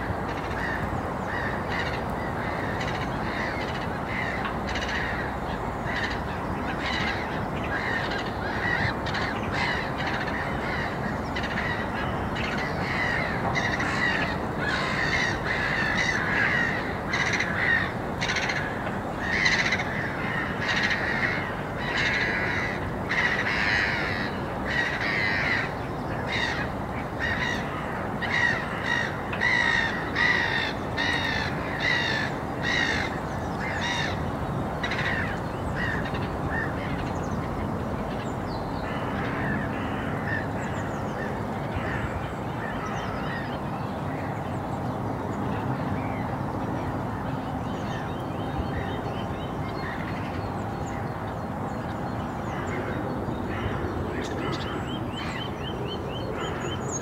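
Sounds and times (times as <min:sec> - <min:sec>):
birds calling: 0:00.0 - 0:57.0
low background noise: 0:00.0 - 0:57.0.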